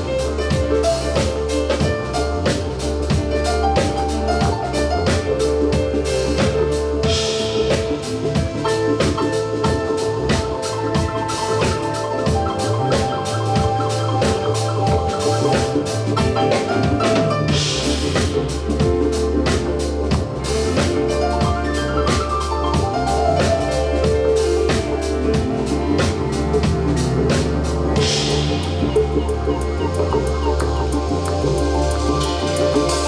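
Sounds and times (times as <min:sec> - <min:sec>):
band playing instrumental: 0:00.0 - 0:33.0.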